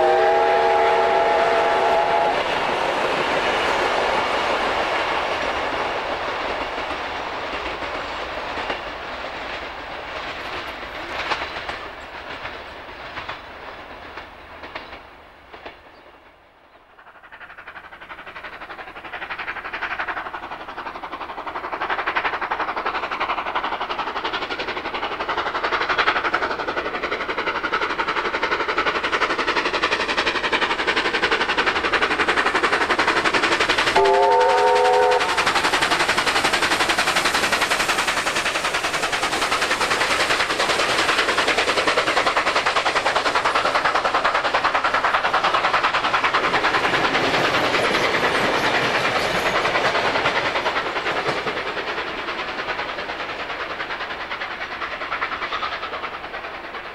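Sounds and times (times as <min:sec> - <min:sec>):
steam locomotive working: 0:00.0 - 0:56.9.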